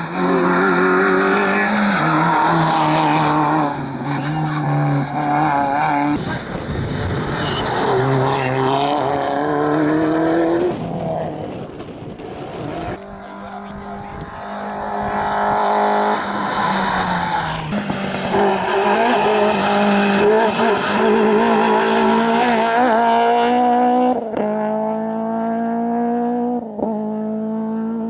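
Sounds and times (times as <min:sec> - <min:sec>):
rally car engine accelerating: 0:00.0 - 0:28.0.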